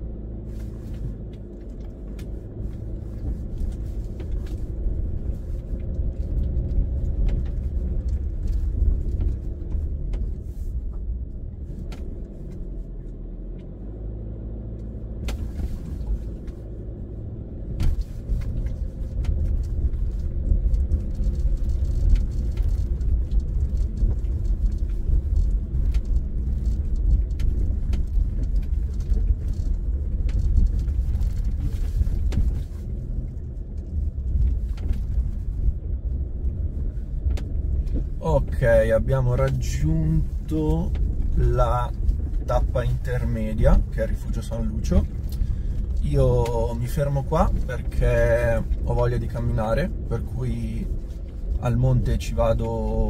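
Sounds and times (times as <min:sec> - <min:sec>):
car engine and tyre rumble: 0:00.0 - 0:53.0
stones clicking under tyres: 0:00.5 - 0:14.1, 0:14.7 - 0:53.0.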